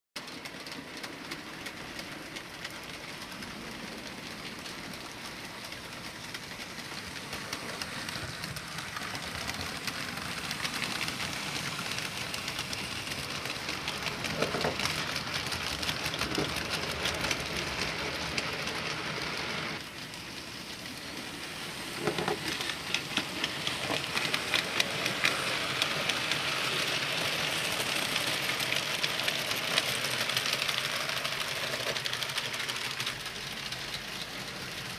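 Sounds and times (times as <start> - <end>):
model train wheels rattling on rails: 0.2 - 34.9.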